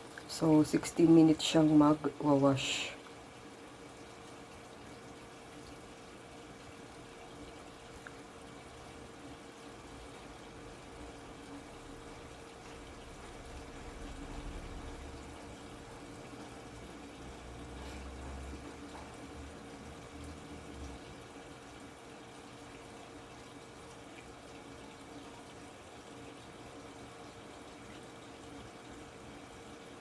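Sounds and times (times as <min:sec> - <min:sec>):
water rushing into washing machine: 0:00.0 - 0:30.0.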